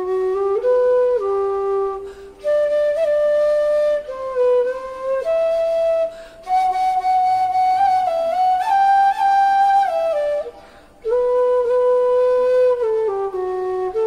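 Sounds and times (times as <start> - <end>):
bamboo flute held notes: 0.0 - 14.0.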